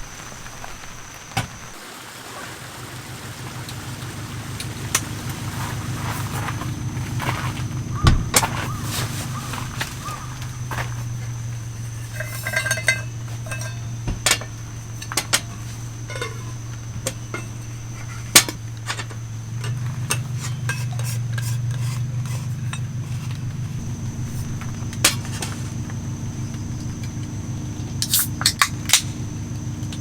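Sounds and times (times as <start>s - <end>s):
steady low hum: 2.4s - 30.0s.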